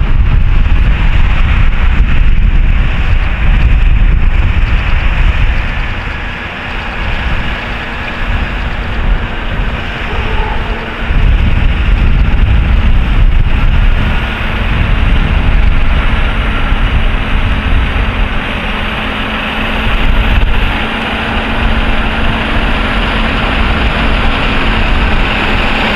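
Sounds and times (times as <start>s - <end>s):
turboprop aircraft taking off: 0.0s - 25.9s.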